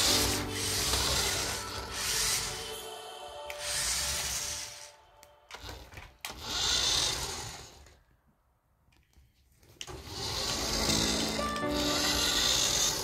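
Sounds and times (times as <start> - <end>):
toy car motor whirring: 0.0 - 2.8, 3.5 - 8.0, 9.8 - 13.0
plastic wheels hissing on tiles: 0.0 - 2.9, 3.5 - 8.0, 9.8 - 13.0.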